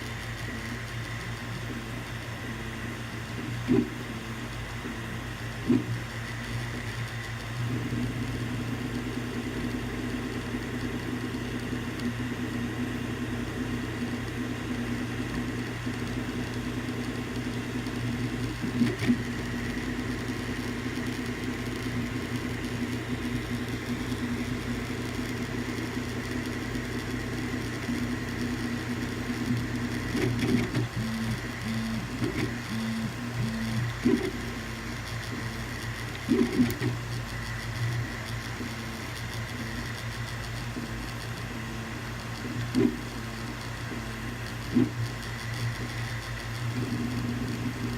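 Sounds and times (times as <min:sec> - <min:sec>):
fan hum: 0:00.0 - 0:47.9
stepper motors whirring: 0:00.0 - 0:47.9.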